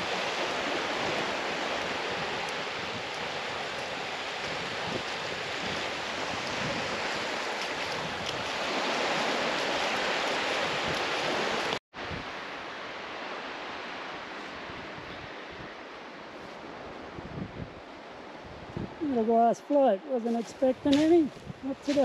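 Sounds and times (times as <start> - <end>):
waves washing onto beach: 0.0 - 22.0.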